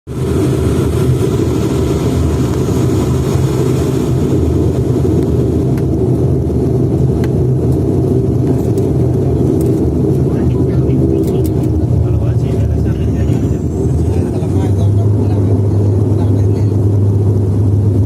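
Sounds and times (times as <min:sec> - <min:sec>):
turboprop engines droning in cabin: 0:00.1 - 0:18.0.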